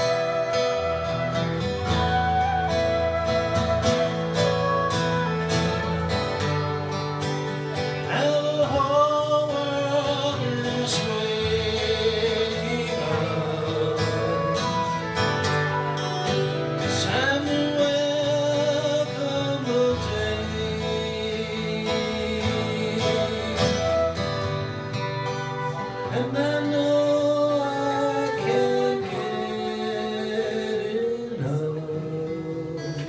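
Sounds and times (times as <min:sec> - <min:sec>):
wavering melodic lead line: 0:00.0 - 0:29.8
acoustic guitar picking: 0:00.0 - 0:33.0.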